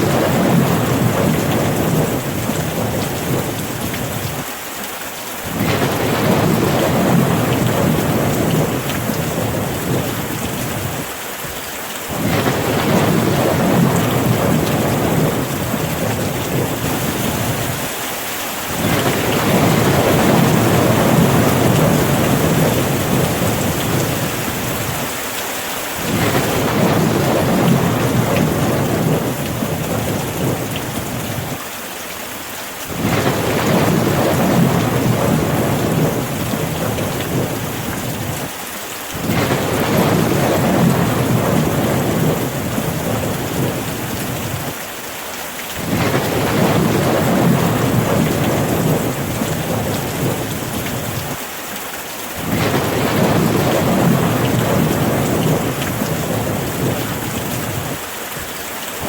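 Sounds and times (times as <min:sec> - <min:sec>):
low rumbles of thunder: 0:00.0 - 0:04.5, 0:05.5 - 0:11.1, 0:12.1 - 0:17.9, 0:18.7 - 0:25.1, 0:26.0 - 0:31.6, 0:32.9 - 0:38.5, 0:39.2 - 0:44.8, 0:45.8 - 0:51.4, 0:52.4 - 0:58.0
rain falling: 0:00.0 - 0:59.0.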